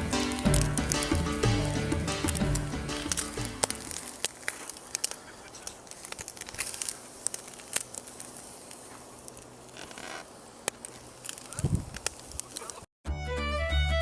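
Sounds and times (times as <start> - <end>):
campfire crackling: 0.0 - 12.9.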